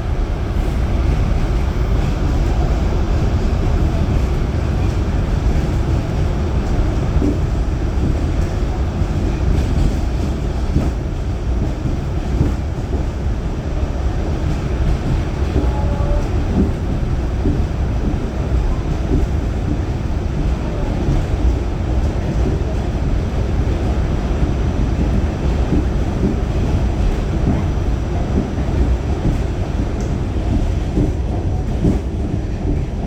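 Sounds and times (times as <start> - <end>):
subway wheels rumbling on rail: 0.0 - 33.0.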